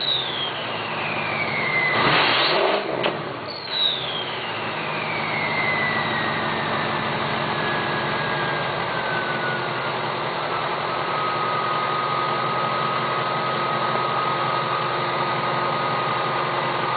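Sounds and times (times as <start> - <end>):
diesel engine idling: 0.0 - 2.0, 2.9 - 16.9
turbocharger whistling: 0.0 - 16.9.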